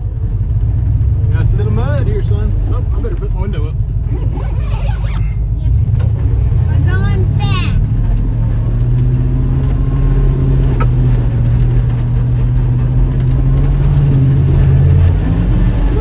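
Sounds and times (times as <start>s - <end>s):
car engine under throttle: 0.0s - 16.0s.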